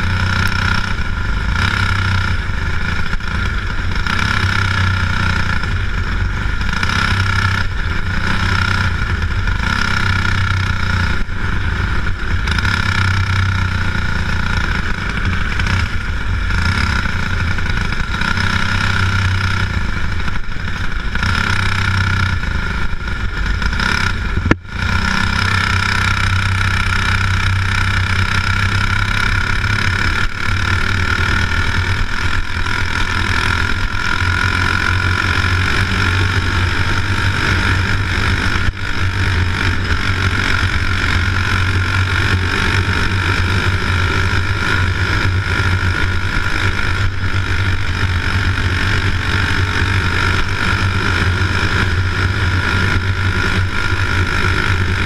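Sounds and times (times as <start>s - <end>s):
engine drone with low hum: 0.0s - 55.0s.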